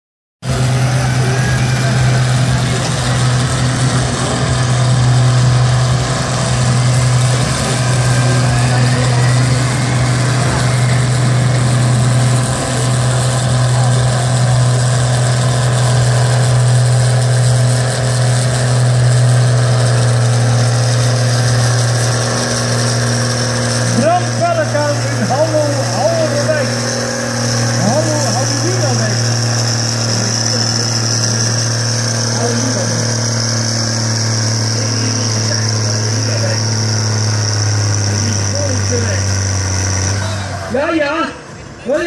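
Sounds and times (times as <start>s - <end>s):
tractor engines idling: 0.4s - 42.0s.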